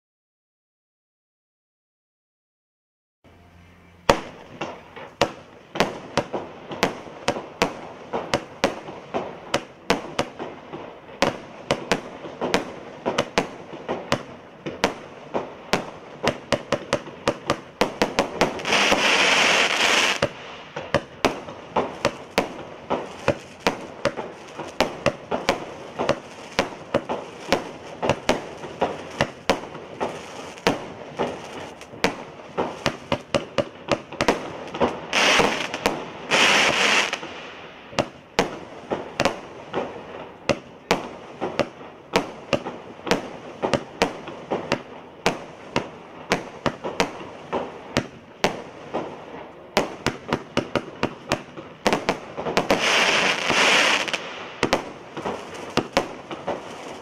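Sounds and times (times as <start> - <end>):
firework shots: 3.9 - 57.0.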